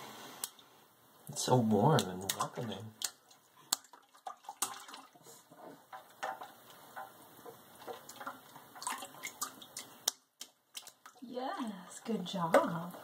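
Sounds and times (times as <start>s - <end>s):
baby splashing water in sink: 1.4s - 13.0s.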